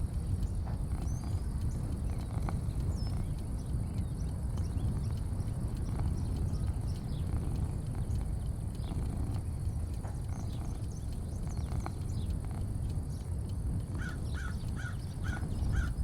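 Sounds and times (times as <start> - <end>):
high insect drone: 0.0 - 16.0
low rumble: 0.0 - 16.0.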